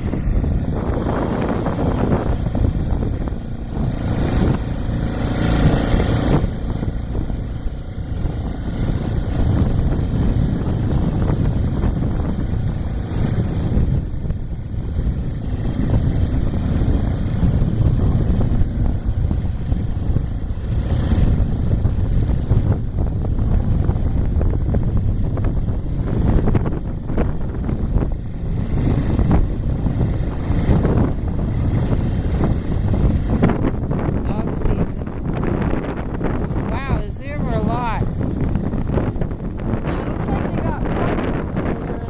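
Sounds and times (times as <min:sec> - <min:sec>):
rushing gusts or waves: 0:00.0 - 0:42.0
wind buffeting microphone: 0:00.0 - 0:42.0.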